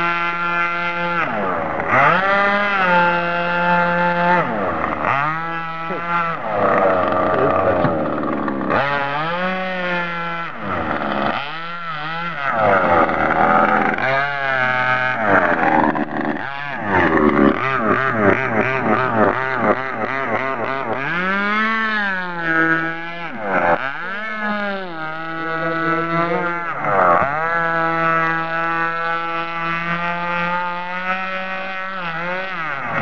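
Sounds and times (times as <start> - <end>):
rc boat motor running: 0.0 - 33.0.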